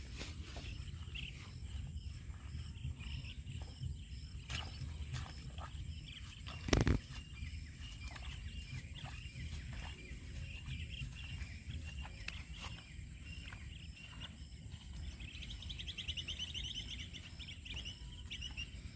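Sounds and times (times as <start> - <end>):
birds chirping: 0.0 - 18.9
low rumble of wind: 0.0 - 18.9.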